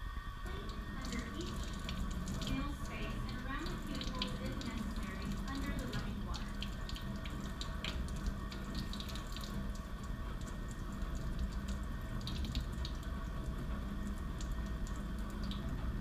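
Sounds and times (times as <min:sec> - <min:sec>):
water running into a sink: 0:00.4 - 0:16.0.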